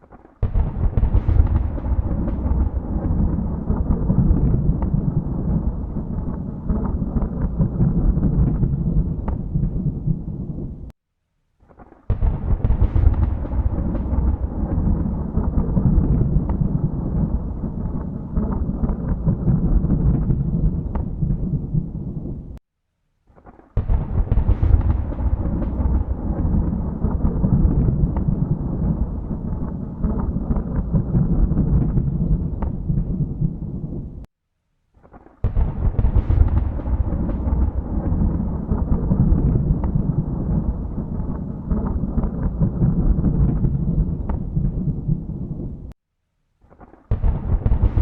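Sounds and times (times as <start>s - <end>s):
rolling thunder: 0.0s - 10.9s, 12.1s - 22.6s, 23.8s - 34.3s, 35.4s - 46.0s, 47.1s - 48.0s.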